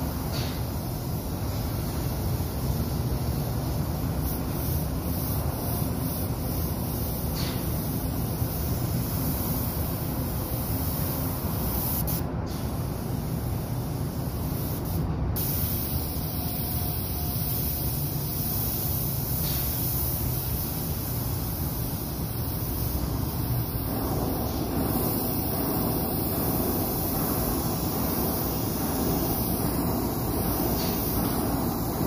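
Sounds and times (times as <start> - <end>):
paint spray gun hissing: 0.0 - 32.0.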